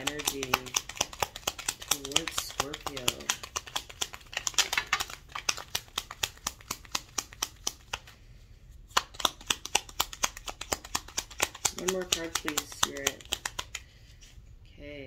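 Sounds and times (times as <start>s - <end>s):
cards being shuffled: 0.0s - 8.2s, 8.8s - 14.4s.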